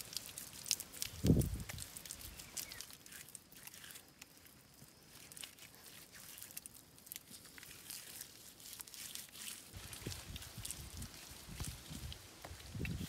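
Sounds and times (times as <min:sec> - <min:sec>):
hands patting wet clay: 0:00.0 - 0:13.0.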